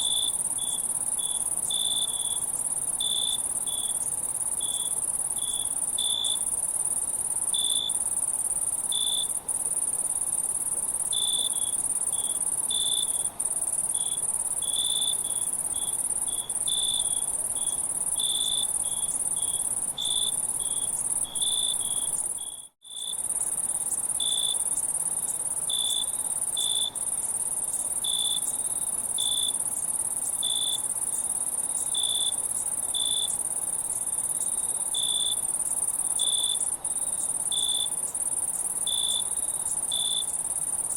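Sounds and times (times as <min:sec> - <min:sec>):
crickets trilling: 0:00.0 - 0:40.9
insect chirps: 0:00.0 - 0:40.9.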